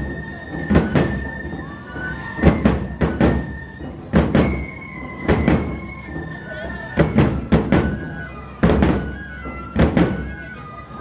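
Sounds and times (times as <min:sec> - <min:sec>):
heavy taiko drum strokes: 0:00.0 - 0:11.0
transverse flutes playing melody: 0:00.0 - 0:11.0.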